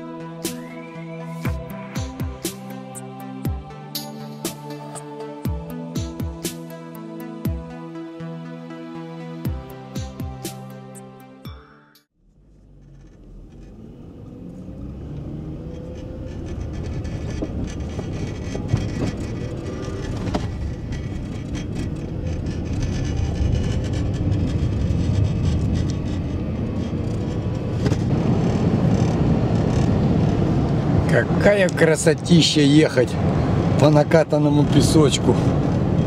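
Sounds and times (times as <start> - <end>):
car engine and tyre rumble: 0.0 - 10.9, 12.2 - 36.0.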